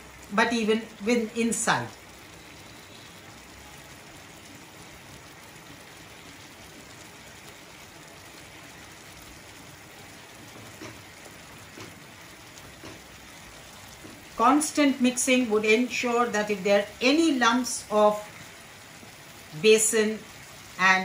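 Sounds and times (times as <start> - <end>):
curry bubbling and hissing: 0.0 - 20.9.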